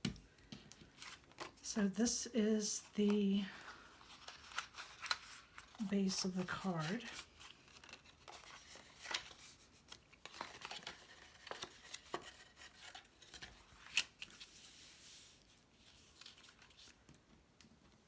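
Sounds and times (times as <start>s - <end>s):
paper rustling: 2.6s - 17.1s.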